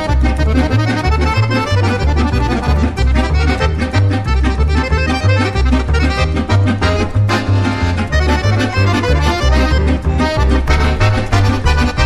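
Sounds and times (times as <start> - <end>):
accordion music: 0.0 - 12.0
bass line stepping: 0.0 - 12.0.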